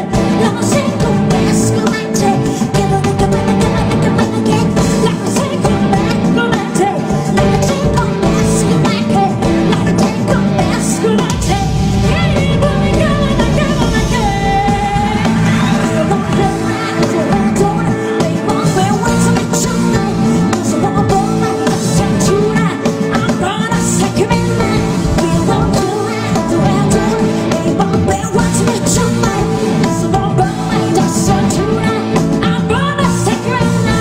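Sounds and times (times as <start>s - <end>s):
live band with guitar and drums: 0.0s - 34.0s
woman singing into a microphone: 0.0s - 34.0s.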